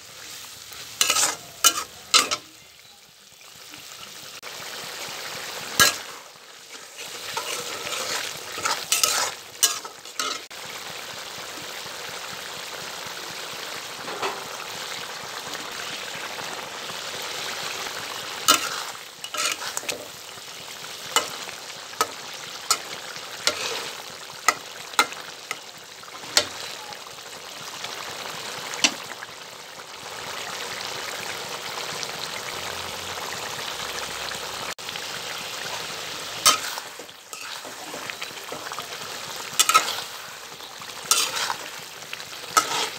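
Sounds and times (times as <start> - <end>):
curry bubbling and sizzling: 0.0 - 42.9.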